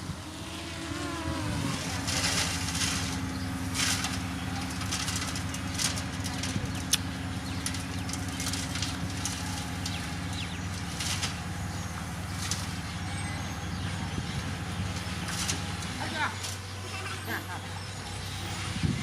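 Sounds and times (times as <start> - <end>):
diesel engine running under load: 0.0 - 19.0.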